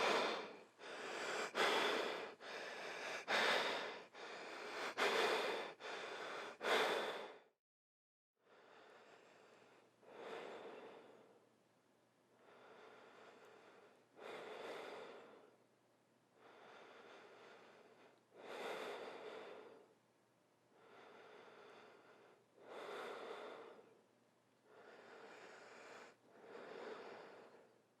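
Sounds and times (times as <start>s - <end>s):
person breathing slowly: 0.0s - 7.6s, 8.4s - 11.4s, 12.3s - 15.6s, 16.4s - 20.0s, 20.7s - 28.0s.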